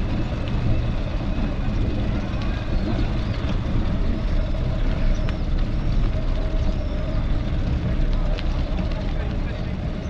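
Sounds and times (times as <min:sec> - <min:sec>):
road traffic: 0:00.0 - 0:10.0
wind rumbling on microphone: 0:00.0 - 0:10.0.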